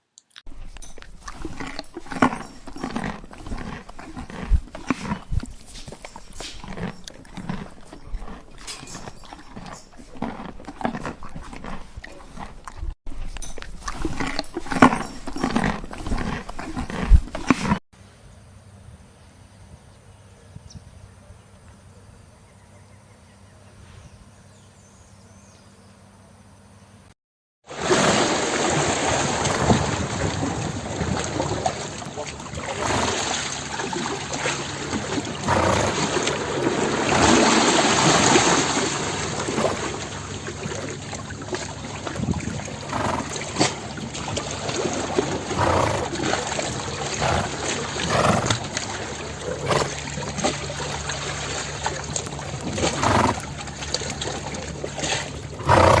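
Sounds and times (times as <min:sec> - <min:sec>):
water sloshing and splashing: 0:00.4 - 0:17.8, 0:27.6 - 0:56.0.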